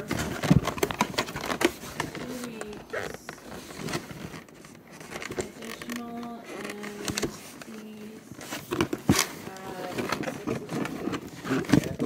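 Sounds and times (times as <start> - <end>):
cardboard box being handled: 0.0 - 12.0.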